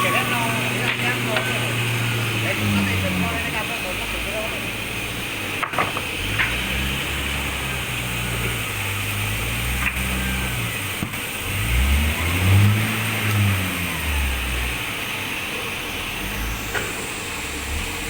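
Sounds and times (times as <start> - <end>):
sawmill engine humming: 0.0 - 18.0.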